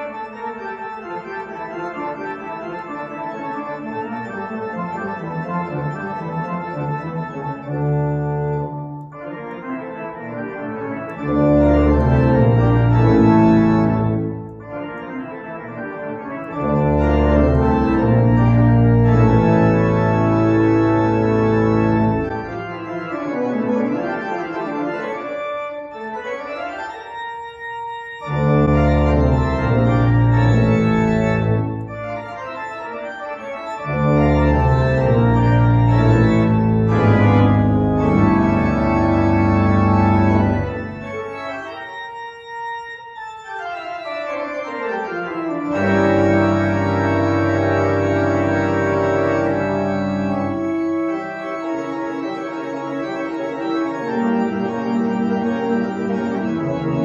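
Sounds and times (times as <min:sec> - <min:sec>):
organ music: 0:00.0 - 0:57.0.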